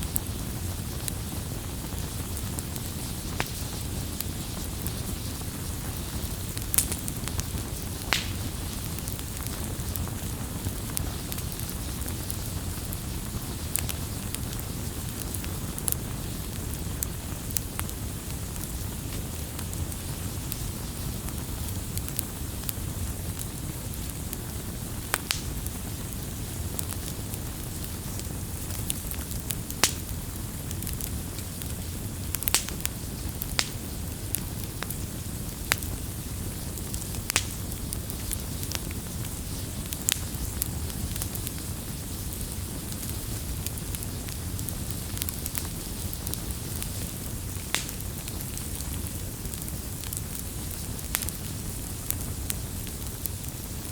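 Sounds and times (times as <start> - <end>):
campfire flames rumbling: 0.0 - 53.9
fire crackles and pops: 0.0 - 53.9.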